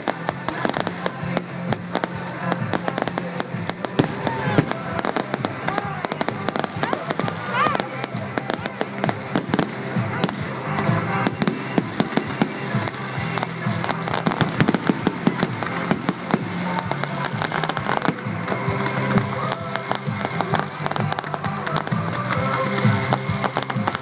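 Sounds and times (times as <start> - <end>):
fireworks bangs and crackles: 0.0 - 24.0
loud music playing: 0.0 - 24.0.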